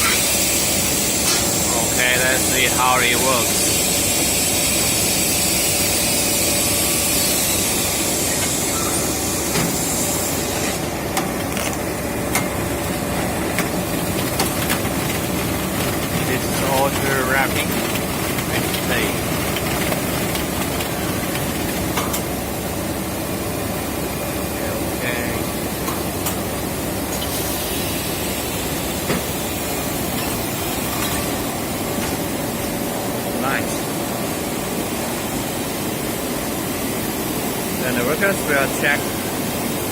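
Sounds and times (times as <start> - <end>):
machinery hiss and hum: 0.0 - 39.9.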